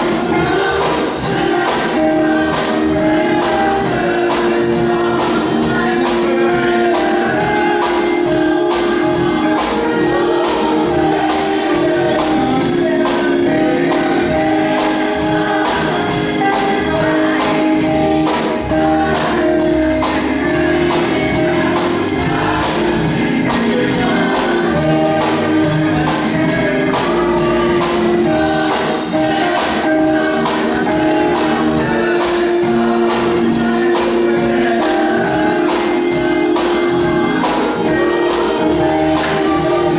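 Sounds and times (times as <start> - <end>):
gospel choir with instruments: 0.0 - 39.9
tambourine beat: 0.0 - 39.9.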